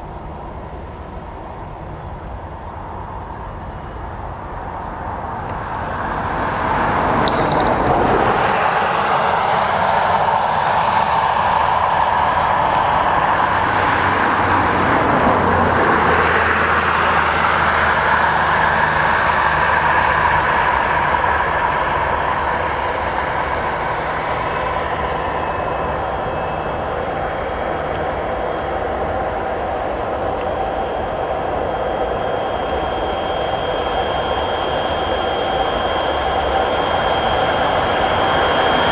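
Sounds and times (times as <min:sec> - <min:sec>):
jet engines rumbling: 0:00.0 - 0:38.9
low hum: 0:00.0 - 0:38.9.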